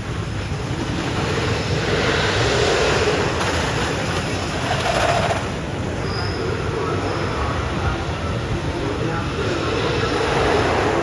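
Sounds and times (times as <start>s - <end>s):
roller coaster rumbling on track: 0.0s - 11.0s.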